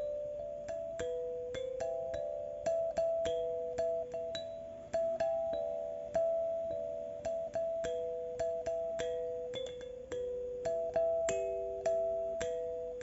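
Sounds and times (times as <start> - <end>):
bell-like keyboard melody: 0.0 - 13.0.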